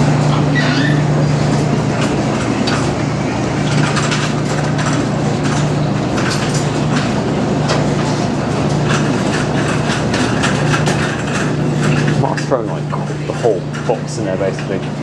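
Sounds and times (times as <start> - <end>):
washing machine humming and churning: 0.0 - 15.0.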